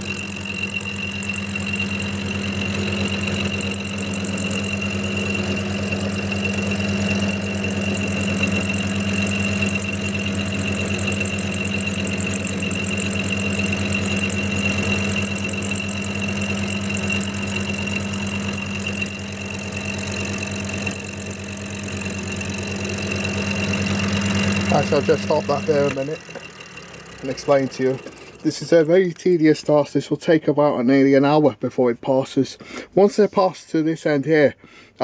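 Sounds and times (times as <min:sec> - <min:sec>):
milling machine cutting steel: 0:00.0 - 0:29.7.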